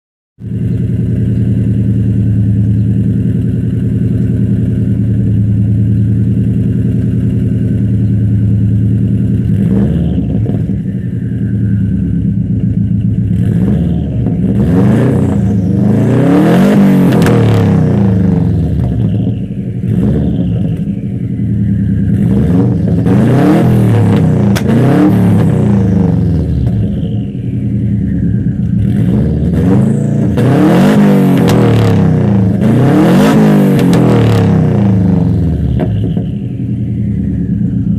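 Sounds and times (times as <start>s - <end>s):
car engine idling: 0.4s - 37.9s
car engine revving: 0.4s - 37.9s.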